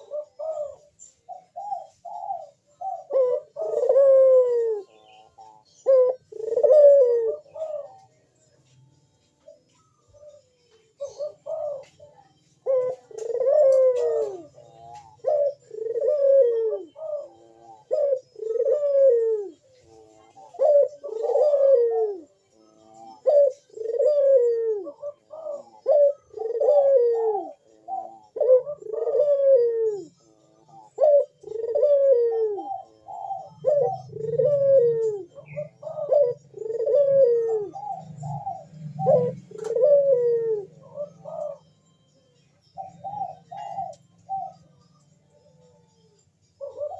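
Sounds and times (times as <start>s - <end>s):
doves cooing: 0.0s - 8.8s, 9.4s - 46.9s.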